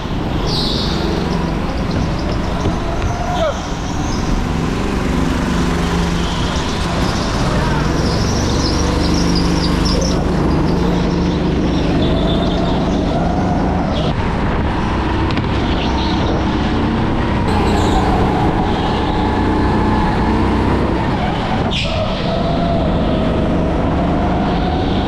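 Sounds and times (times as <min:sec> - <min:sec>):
kart engine running loudly: 0:00.0 - 0:25.0.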